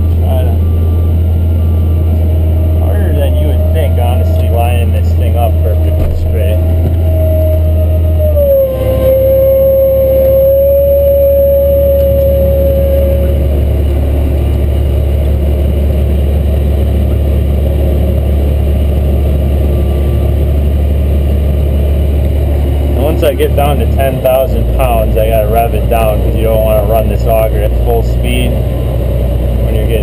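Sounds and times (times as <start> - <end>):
tractor engine drone: 0.0 - 30.0.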